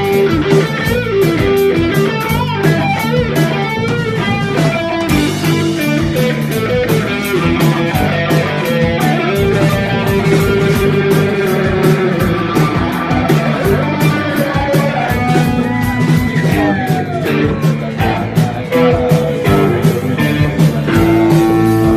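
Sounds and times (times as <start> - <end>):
instrumental rock music: 0.0 - 21.9.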